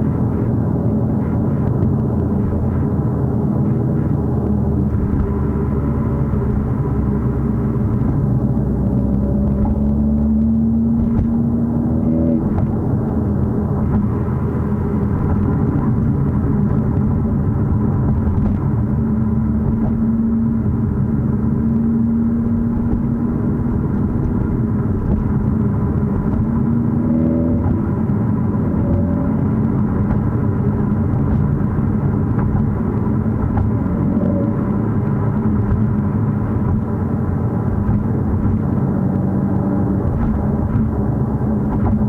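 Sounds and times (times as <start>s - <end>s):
car engine rumble: 0.0s - 42.0s
road noise: 0.0s - 42.0s.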